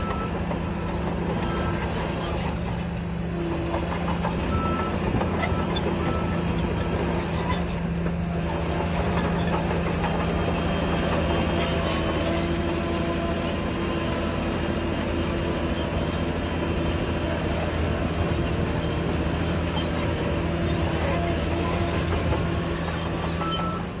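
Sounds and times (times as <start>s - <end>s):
diesel machinery engine drone: 0.0s - 24.0s.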